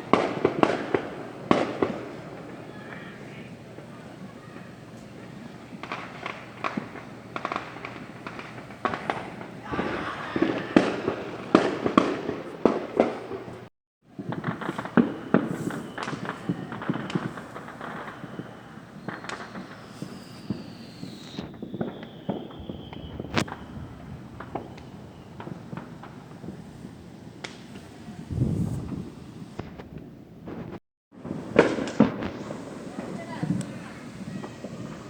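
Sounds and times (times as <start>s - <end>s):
falling firework whistle: 0.0s - 13.2s, 14.1s - 29.9s, 30.5s - 35.0s
fireworks bangs and crackles: 0.0s - 35.0s.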